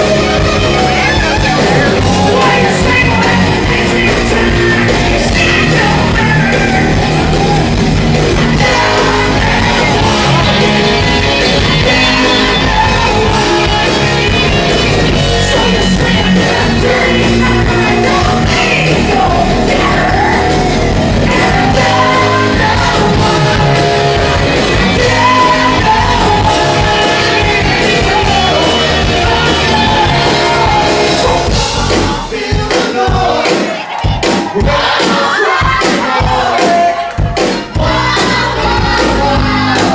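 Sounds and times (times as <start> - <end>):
bass guitar: 0.0 - 33.5, 37.2 - 39.9
electric guitars: 0.0 - 34.9
drums: 0.0 - 39.9
person singing lead vocal: 0.0 - 39.9.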